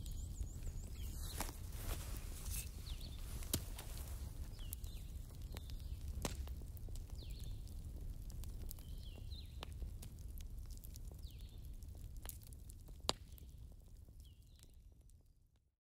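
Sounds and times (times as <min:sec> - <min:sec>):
wood fire crackling: 0:00.0 - 0:15.5
low rumble of burning: 0:00.0 - 0:15.7.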